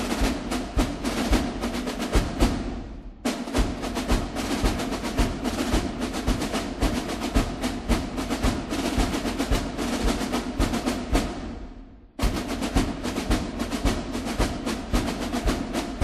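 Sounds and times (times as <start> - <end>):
music with fast drum beat: 0.0 - 16.0.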